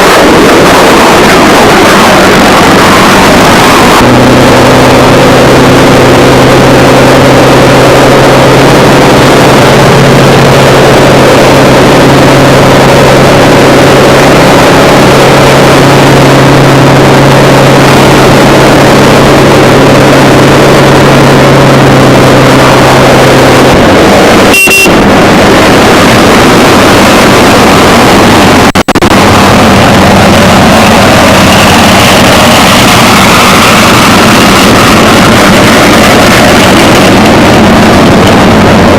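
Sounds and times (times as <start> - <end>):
aircraft piston engine drone: 0.0 - 38.9.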